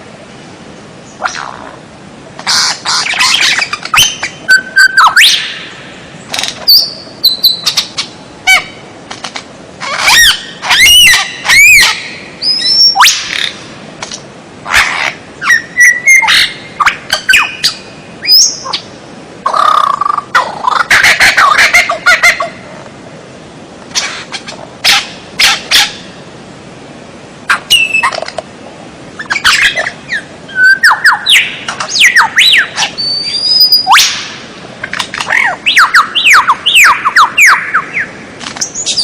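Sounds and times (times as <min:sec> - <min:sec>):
songbird singing: 0:00.7 - 0:09.0, 0:09.8 - 0:22.8, 0:23.5 - 0:26.4, 0:27.5 - 0:28.4, 0:29.1 - 0:39.0.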